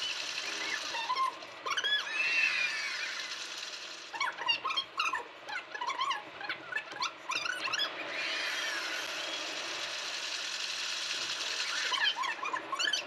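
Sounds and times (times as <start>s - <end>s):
high squeaky chirps: 0.0s - 9.5s, 11.4s - 13.0s.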